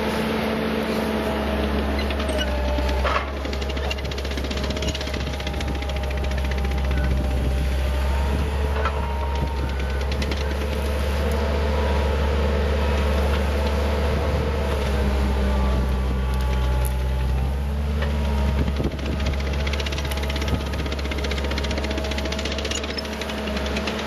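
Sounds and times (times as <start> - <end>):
diesel engine running under load: 0.0 - 24.0.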